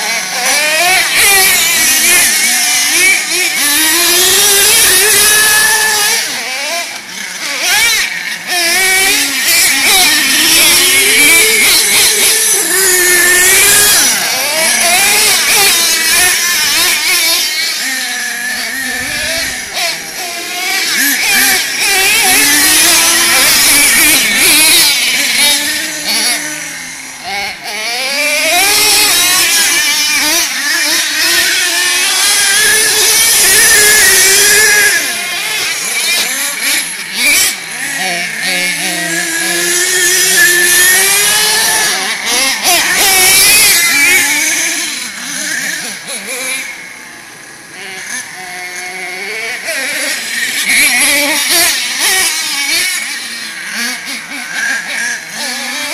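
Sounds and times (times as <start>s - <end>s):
rc truck engine revving: 0.0s - 55.9s.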